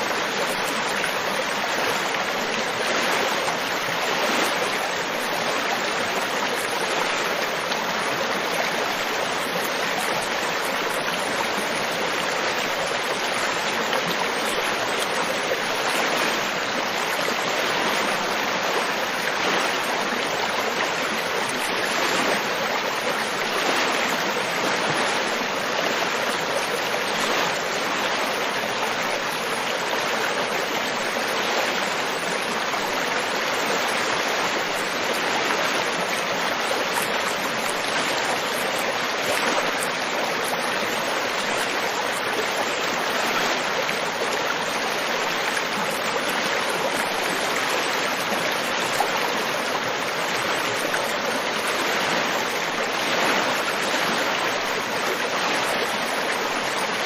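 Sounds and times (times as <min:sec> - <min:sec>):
river water flowing over rocks: 0:00.0 - 0:57.0.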